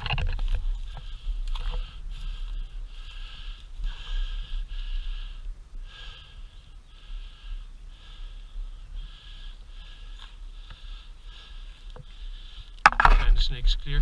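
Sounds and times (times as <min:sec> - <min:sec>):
person breathing hard: 0:00.8 - 0:12.8.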